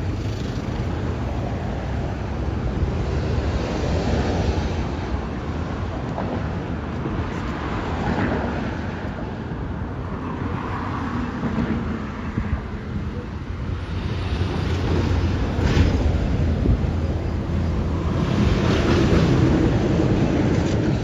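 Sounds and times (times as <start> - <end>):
road traffic rumbling: 0.0 - 21.0
wind buffeting microphone: 0.0 - 21.0.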